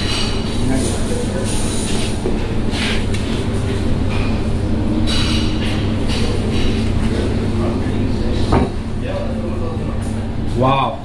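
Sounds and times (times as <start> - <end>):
kitchen ventilation hum: 0.0 - 11.0.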